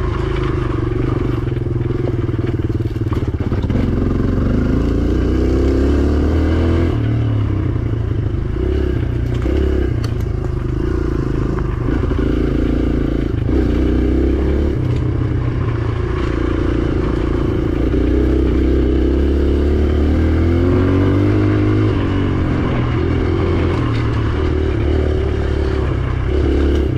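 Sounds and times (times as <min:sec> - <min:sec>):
dirt bike engine revving: 0:00.0 - 0:26.9.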